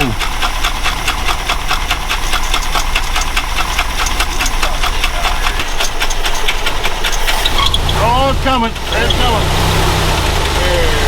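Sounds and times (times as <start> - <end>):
rapid even ticking: 0.0 - 11.0
truck engine idling: 0.0 - 11.0.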